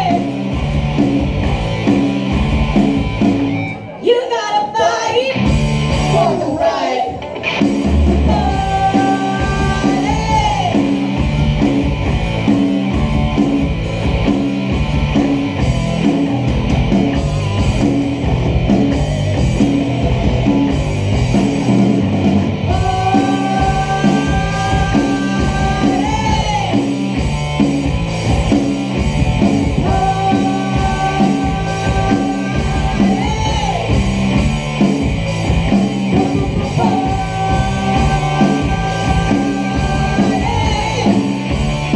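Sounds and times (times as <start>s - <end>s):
live rock band playing: 0.0s - 4.2s, 5.0s - 41.9s.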